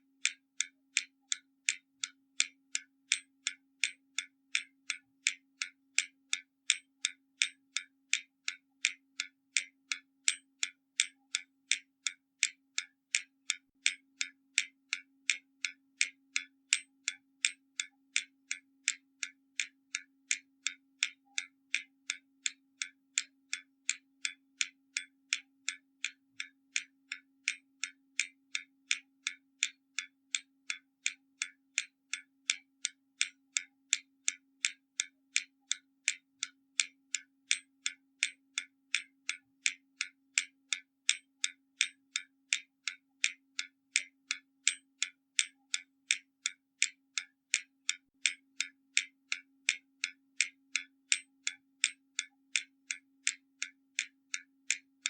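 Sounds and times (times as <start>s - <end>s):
mechanical clock ticking: 0.0s - 55.0s.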